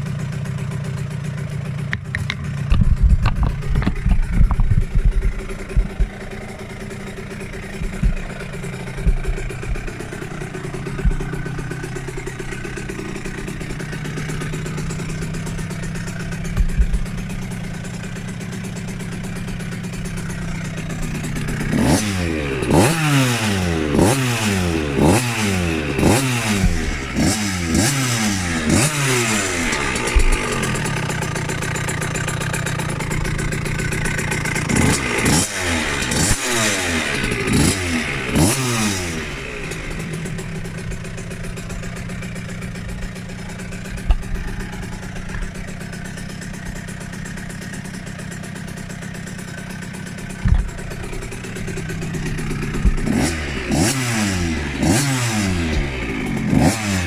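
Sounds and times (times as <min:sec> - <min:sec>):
two-stroke engine idling and revving: 0:00.0 - 0:57.0.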